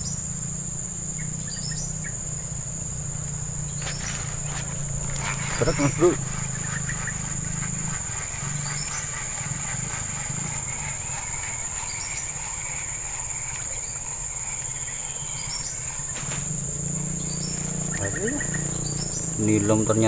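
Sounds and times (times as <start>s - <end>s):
high-pitched insect trill: 0.0s - 20.0s.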